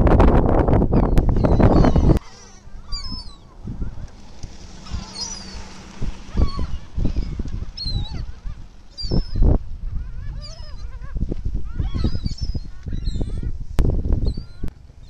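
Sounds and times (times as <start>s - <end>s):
low uneven rumble: 0.0s - 15.0s
waterbirds squawking: 0.9s - 13.6s.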